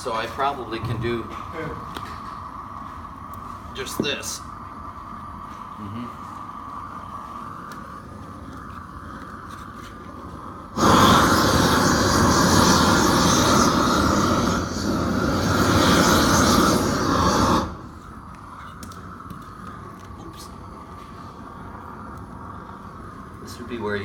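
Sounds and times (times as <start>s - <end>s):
low steady gas hiss: 0.0s - 24.0s
roofing torch flame roaring: 0.0s - 24.0s.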